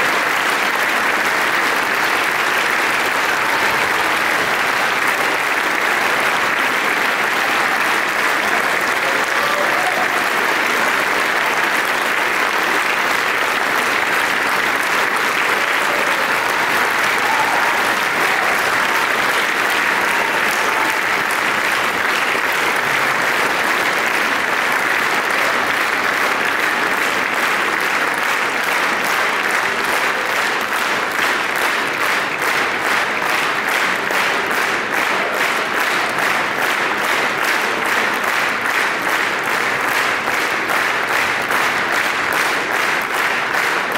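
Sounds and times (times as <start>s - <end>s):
audience applauding: 0.0s - 43.9s
audience clapping in unison: 0.0s - 43.9s.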